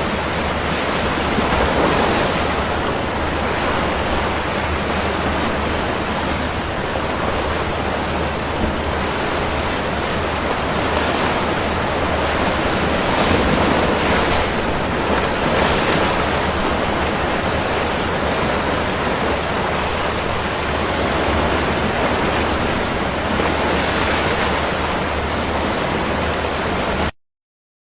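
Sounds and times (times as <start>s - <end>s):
stormy sea waves and surf: 0.0s - 27.2s.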